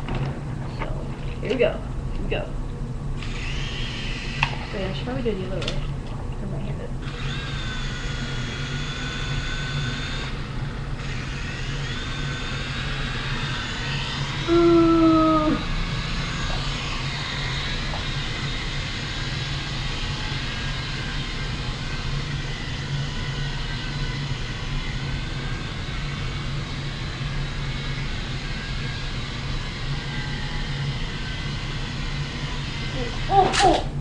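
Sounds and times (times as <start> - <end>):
toy helicopter motor whirring: 3.2 - 5.4, 7.0 - 33.9.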